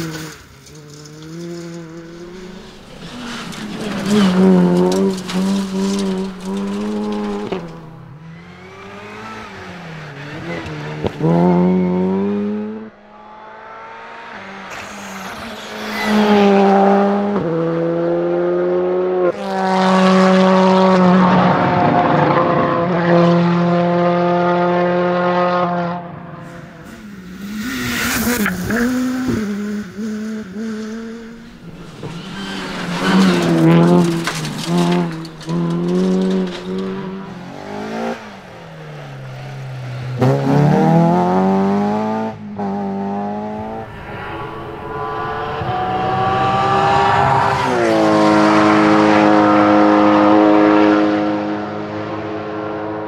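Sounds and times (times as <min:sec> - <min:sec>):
rally car engines accelerating: 0:00.0 - 0:53.0.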